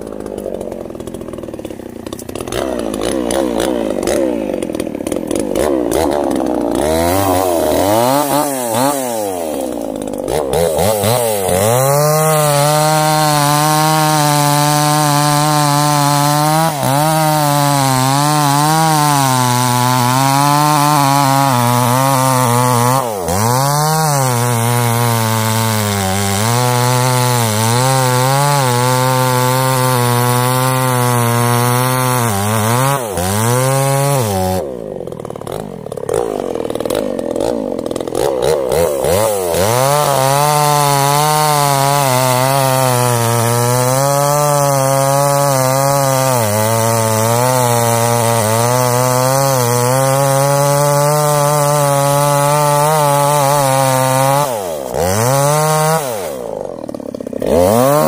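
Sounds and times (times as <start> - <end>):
chainsaw revving and cutting wood: 0.0 - 58.0.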